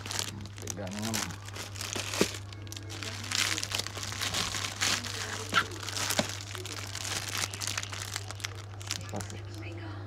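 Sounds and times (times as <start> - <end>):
cellophane crinkling: 0.0 - 9.7.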